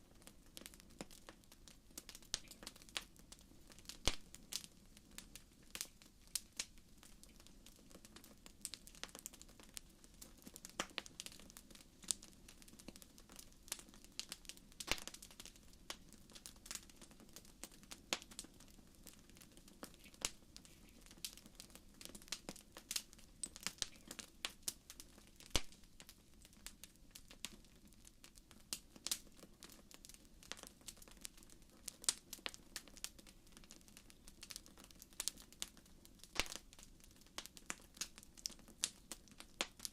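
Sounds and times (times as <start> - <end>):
faint low hiss: 0.0 - 39.9
wood fire crackling: 0.0 - 39.9.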